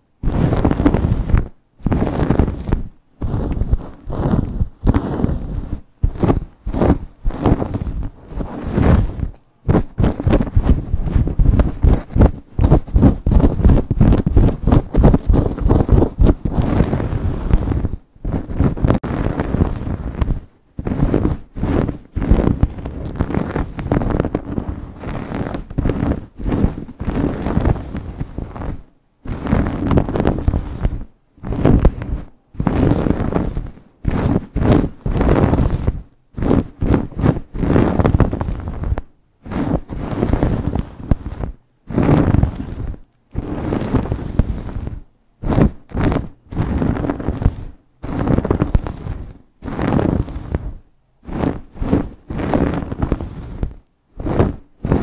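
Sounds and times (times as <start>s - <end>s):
fingernails scratching hair: 0.0s - 55.0s.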